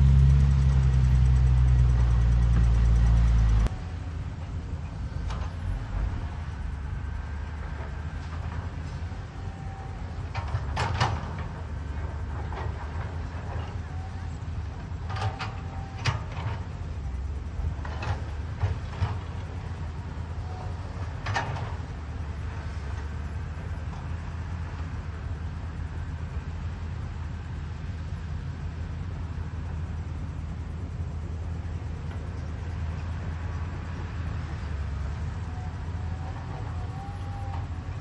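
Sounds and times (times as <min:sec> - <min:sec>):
excavator diesel engine rumbling: 0:00.0 - 0:38.0.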